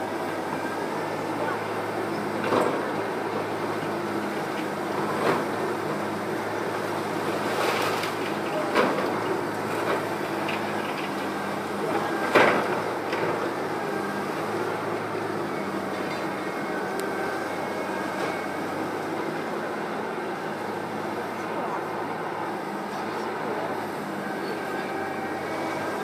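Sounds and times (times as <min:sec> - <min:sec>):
diesel engine of heavy machinery: 0:00.0 - 0:26.0.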